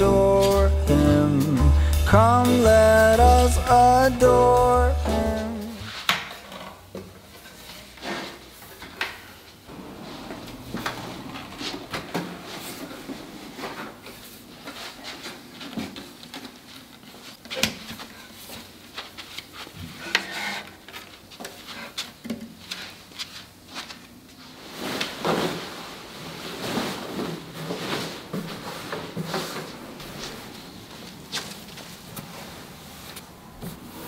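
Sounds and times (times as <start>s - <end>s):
tablecloth rustling: 5.4s - 34.0s.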